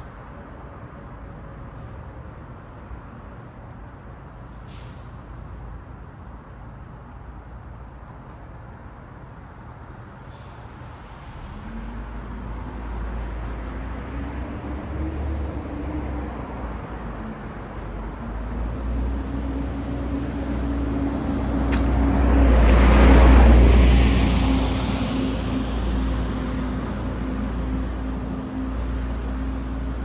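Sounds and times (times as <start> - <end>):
road traffic rumble: 0.1 - 30.0.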